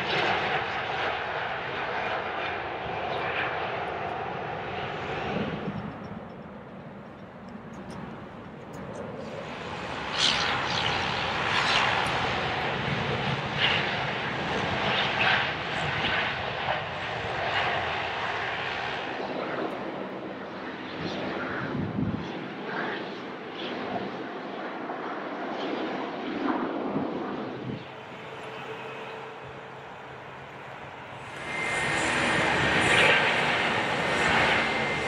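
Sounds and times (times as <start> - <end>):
jet engines roaring at take-off: 0.0 - 35.0
taxiing jet engines: 0.0 - 35.0.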